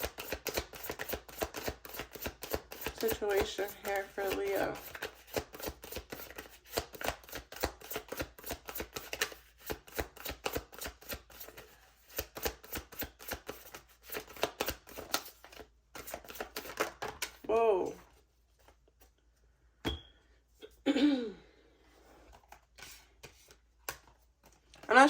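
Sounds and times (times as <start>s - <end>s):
cards being shuffled: 0.0s - 19.2s, 22.2s - 24.9s.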